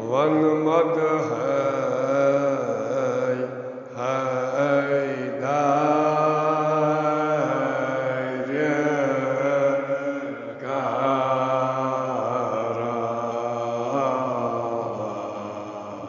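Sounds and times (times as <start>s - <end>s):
elderly man chanting: 0.0s - 16.0s.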